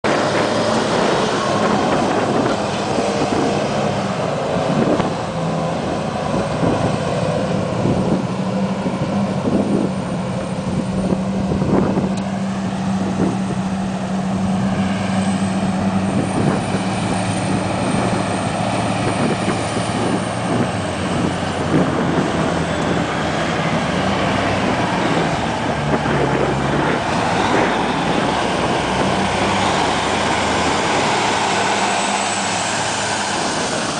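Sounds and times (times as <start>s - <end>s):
truck diesel engine drone: 0.0s - 33.9s.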